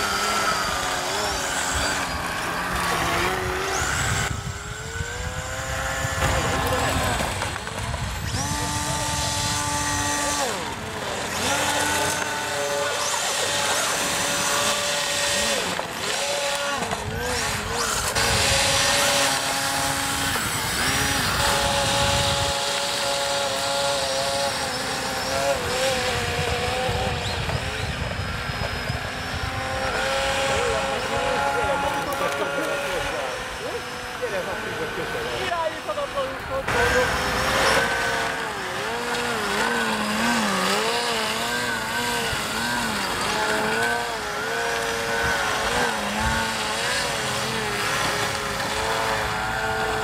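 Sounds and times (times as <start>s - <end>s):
propeller motors whining: 0.0s - 50.0s.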